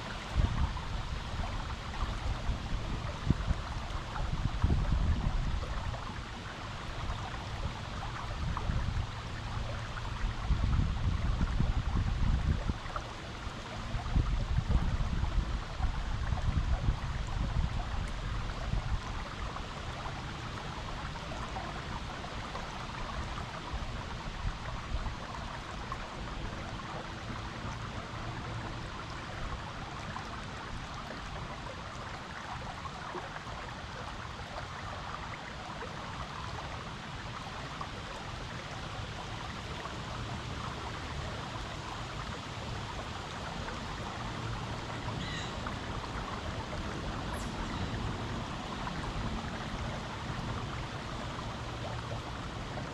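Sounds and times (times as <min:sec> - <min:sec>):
stream water rushing and babbling: 0:00.0 - 0:52.9.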